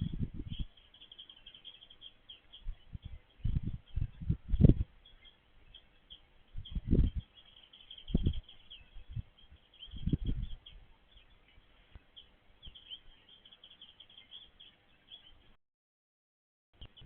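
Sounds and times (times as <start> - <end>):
small birds chirping: 0.0 - 15.6, 16.8 - 17.0.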